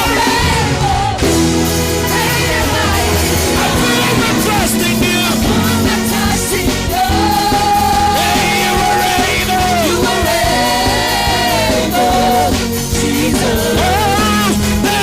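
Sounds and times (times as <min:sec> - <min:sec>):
band playing with drums: 0:00.0 - 0:15.0
people singing long notes: 0:00.0 - 0:15.0.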